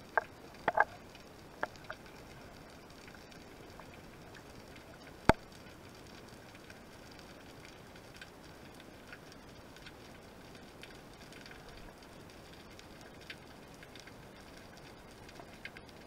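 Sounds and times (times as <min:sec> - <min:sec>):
light crackles and ticks: 0:00.0 - 0:16.0.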